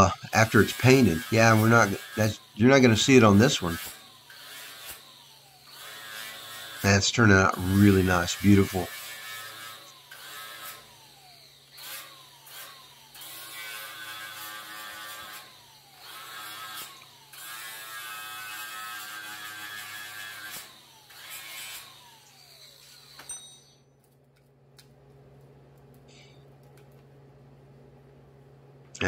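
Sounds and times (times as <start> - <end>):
angle grinder grinding metal: 0.0 - 23.7.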